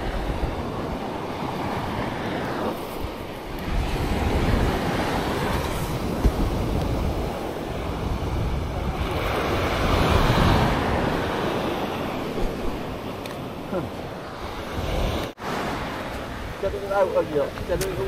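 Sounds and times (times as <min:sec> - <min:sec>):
sea surf breaking on beach: 0:00.0 - 0:18.0
wind rumbling on microphone: 0:00.0 - 0:18.0.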